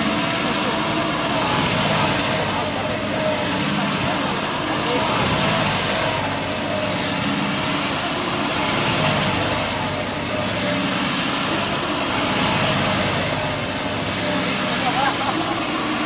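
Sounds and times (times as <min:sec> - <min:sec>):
tractor diesel engine running hard: 0:00.0 - 0:16.0.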